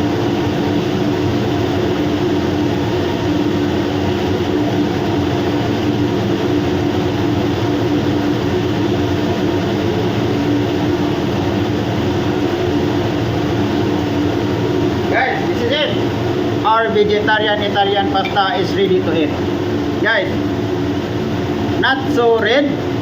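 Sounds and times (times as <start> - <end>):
machinery drone: 0.0 - 23.0.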